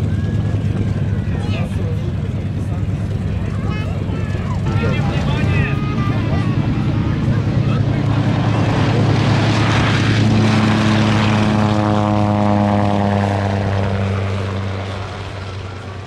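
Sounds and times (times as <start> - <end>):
propeller plane passing overhead: 0.0 - 16.0.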